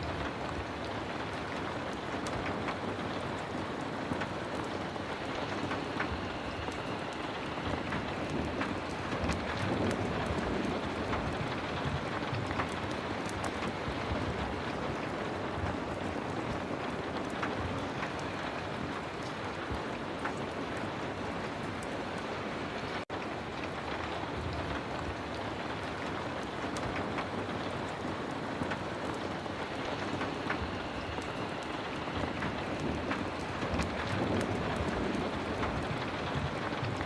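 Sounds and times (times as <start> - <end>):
heavy rain hissing: 0.0 - 37.0
ticks of raindrops: 0.0 - 37.0.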